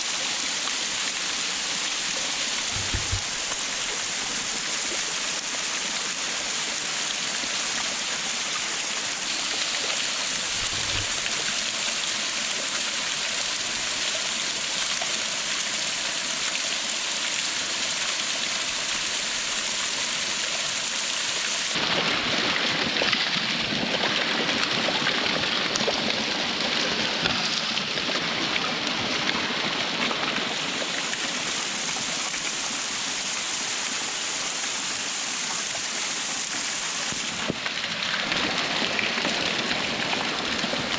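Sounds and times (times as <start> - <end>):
waterfall rushing: 0.0 - 17.1, 24.2 - 40.9.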